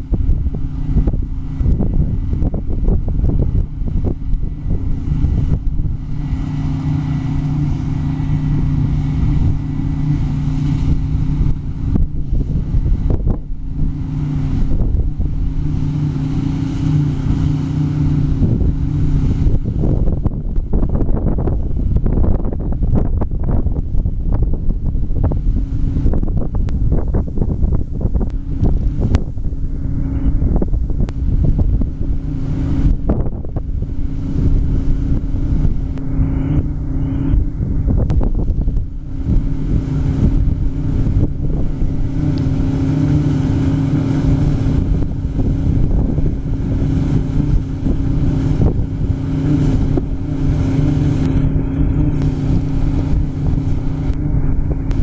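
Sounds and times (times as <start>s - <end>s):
machinery engine running: 0.0s - 55.0s
wind buffeting microphone: 0.0s - 55.0s.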